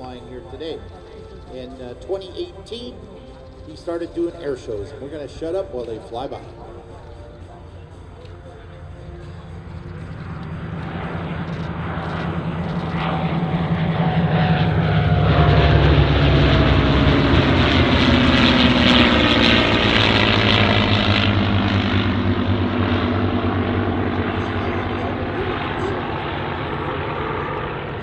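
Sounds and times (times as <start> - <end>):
propeller planes flying past: 0.0 - 28.0.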